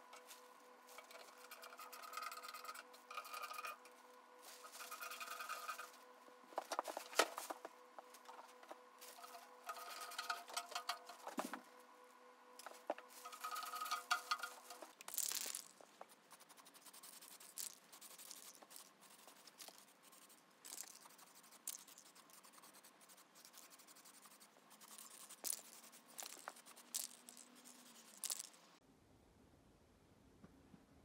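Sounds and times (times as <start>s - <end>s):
faint rustling and scraping: 0.0s - 28.8s.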